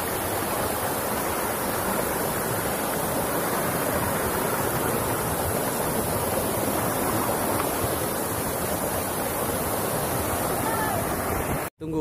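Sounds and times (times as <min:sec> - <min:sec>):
river rushing over stones: 0:00.0 - 0:11.7.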